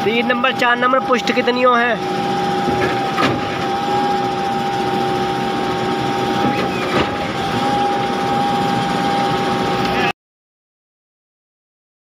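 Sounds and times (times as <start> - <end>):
truck engine running: 0.0 - 10.1
high whine: 0.0 - 10.2.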